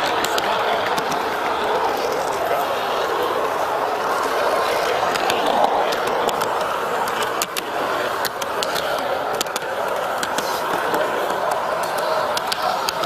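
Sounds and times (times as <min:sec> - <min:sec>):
model train wheels rumbling: 0:00.0 - 0:13.0
sharp track clicks: 0:00.0 - 0:13.0.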